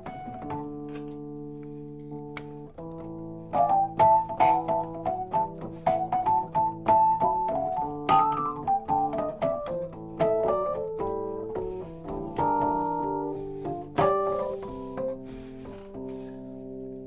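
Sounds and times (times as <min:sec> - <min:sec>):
keyboard notes and chords: 0:00.0 - 0:17.0.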